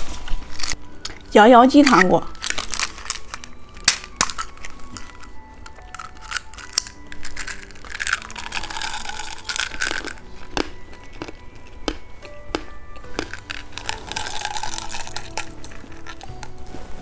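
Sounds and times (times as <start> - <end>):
candy crunching: 0.0 - 17.0
soft background music: 0.0 - 17.0.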